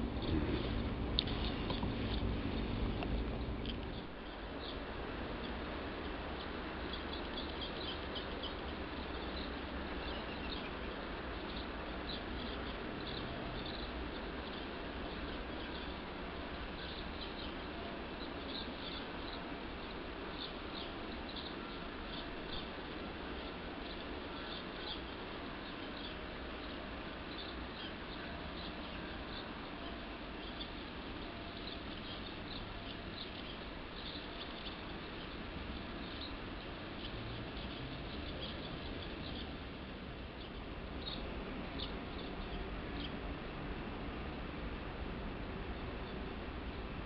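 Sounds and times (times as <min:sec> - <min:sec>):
small birds chirping: 0:00.0 - 0:44.3
low background rumble: 0:00.0 - 0:47.0.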